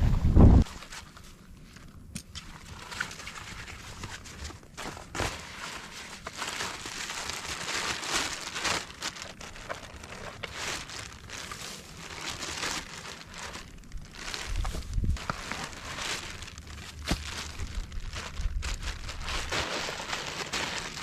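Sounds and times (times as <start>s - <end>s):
crinkling and rustling: 0.1s - 21.0s.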